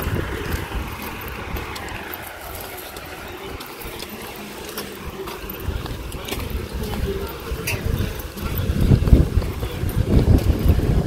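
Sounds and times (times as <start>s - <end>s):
vehicle passing: 0.0s - 11.0s
wind rumble on microphone: 0.0s - 11.0s.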